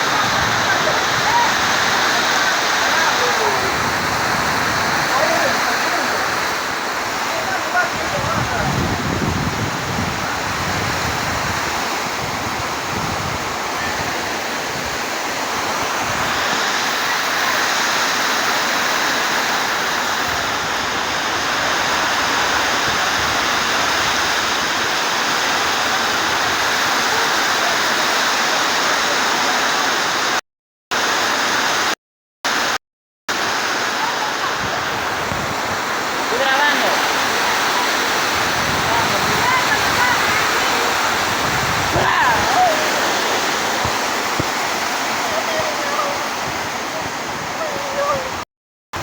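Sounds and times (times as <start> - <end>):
heavy rain pouring: 0.0 - 30.4, 31.0 - 48.4.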